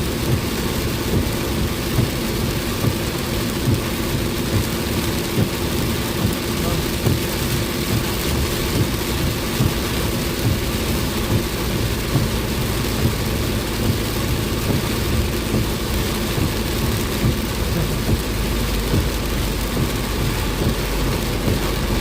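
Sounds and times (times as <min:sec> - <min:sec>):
car engine and tyre noise: 0:00.0 - 0:22.0
heavy rain on a car: 0:00.0 - 0:22.0
soft regular beat: 0:00.0 - 0:22.0.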